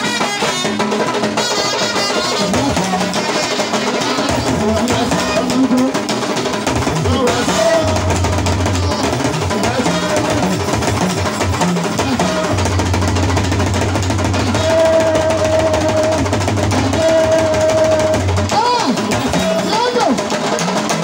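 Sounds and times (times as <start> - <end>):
hand drums playing: 0.0 - 21.0.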